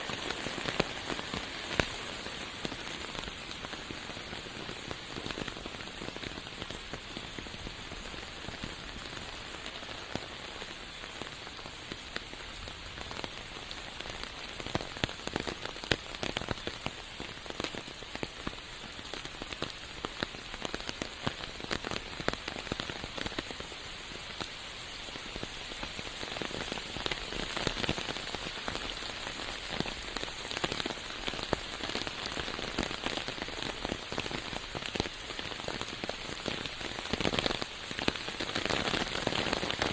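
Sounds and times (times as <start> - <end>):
rain hissing in forest: 0.0 - 39.9
raindrop hits: 0.0 - 39.9.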